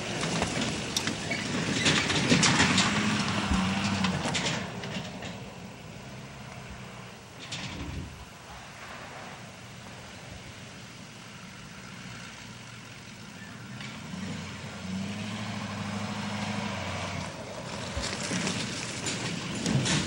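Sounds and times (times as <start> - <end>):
truck engine running: 0.0 - 20.0
tyres on dirt: 0.0 - 20.0.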